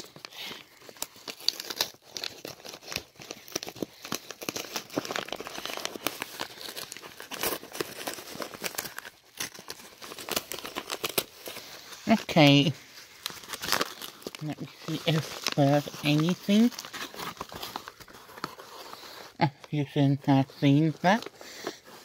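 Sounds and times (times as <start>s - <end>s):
envelope crinkling and tearing: 0.0s - 22.0s.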